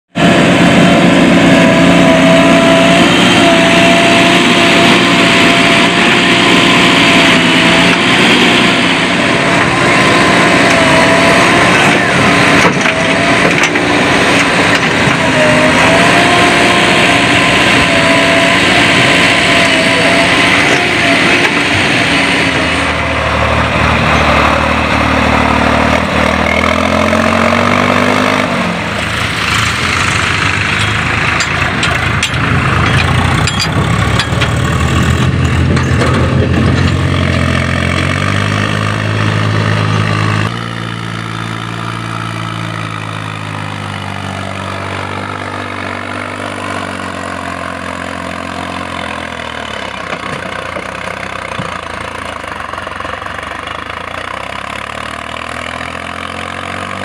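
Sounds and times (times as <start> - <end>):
deep tractor engine: 0.0 - 57.0
diesel engine running hard: 0.1 - 57.0.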